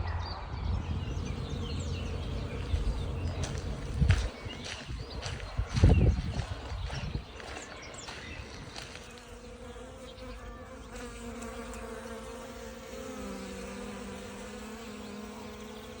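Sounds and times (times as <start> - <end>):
faint forest background: 0.0 - 16.0
flying insect buzzing: 0.8 - 6.1, 7.2 - 16.0.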